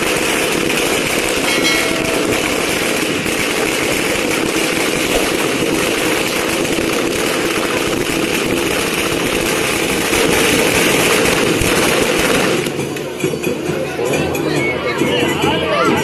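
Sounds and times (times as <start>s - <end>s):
firecrackers rattling: 0.0s - 13.8s.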